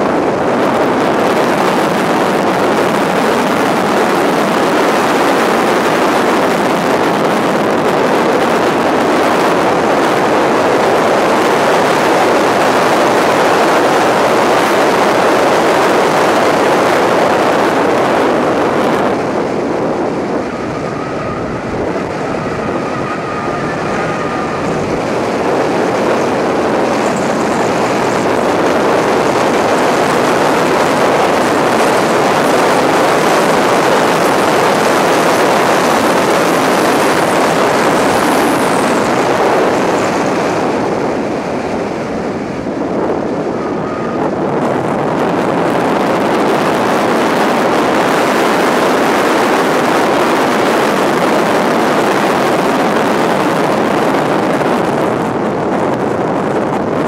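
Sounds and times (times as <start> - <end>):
car engine roaring: 0.0 - 57.0
wind rush: 0.0 - 57.0.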